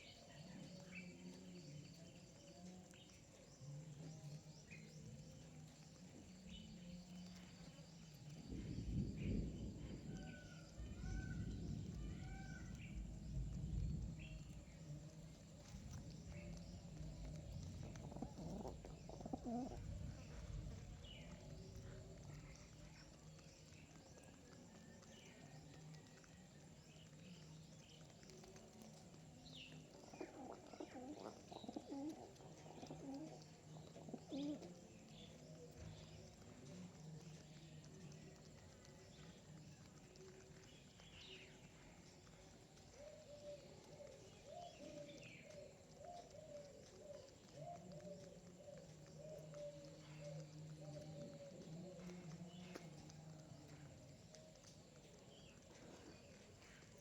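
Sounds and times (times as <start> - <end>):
small birds chirping faintly: 0.0 - 57.0
pigeons cooing: 8.5 - 26.4, 28.0 - 57.0.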